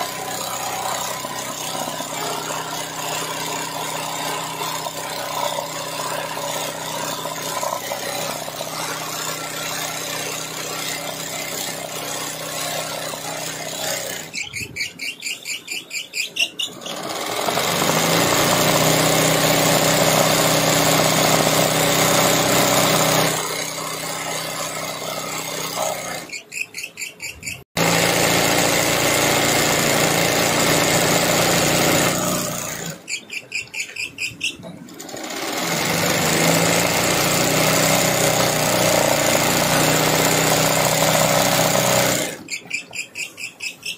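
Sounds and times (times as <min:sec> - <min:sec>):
sewing machine stitching: 0:00.0 - 0:14.7, 0:16.6 - 0:26.4, 0:27.8 - 0:33.1, 0:34.6 - 0:42.7.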